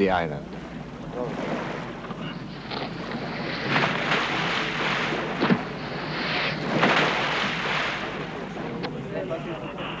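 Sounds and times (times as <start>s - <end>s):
waves splashing: 0.6s - 10.0s.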